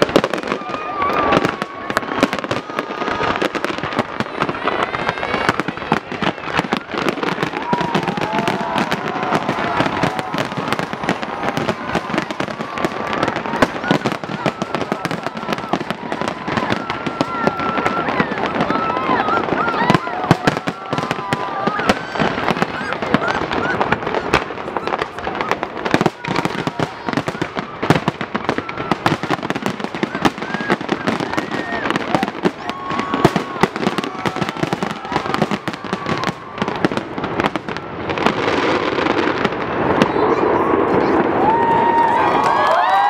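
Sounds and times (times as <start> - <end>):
fireworks bursting: 0.0 - 43.0
fireworks crackling: 0.0 - 43.0.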